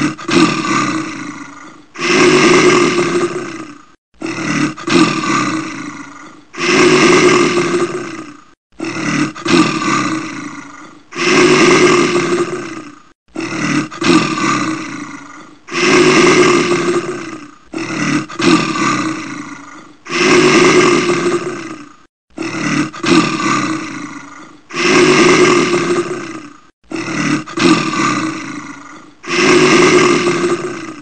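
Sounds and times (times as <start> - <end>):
animal roar: 0.0 - 31.0.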